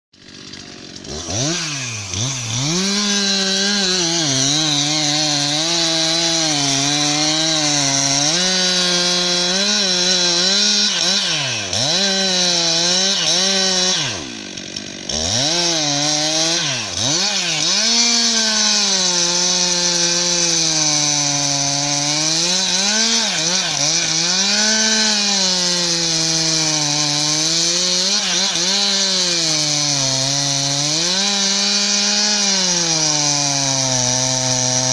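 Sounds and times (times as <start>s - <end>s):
chainsaw cutting wood: 0.2s - 34.9s.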